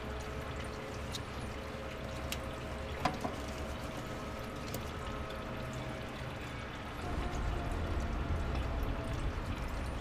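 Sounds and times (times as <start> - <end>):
coolant trickling into pan: 0.0 - 10.0.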